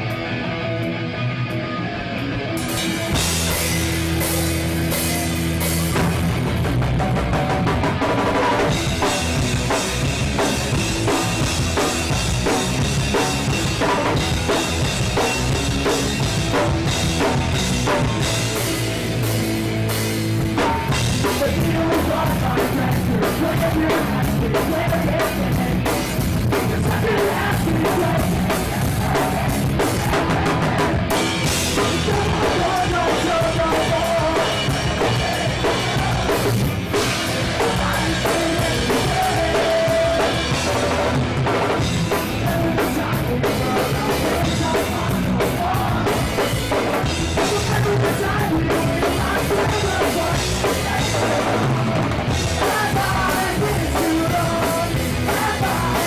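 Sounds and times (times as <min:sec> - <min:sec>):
pop-punk band playing live: 0:00.0 - 0:56.0.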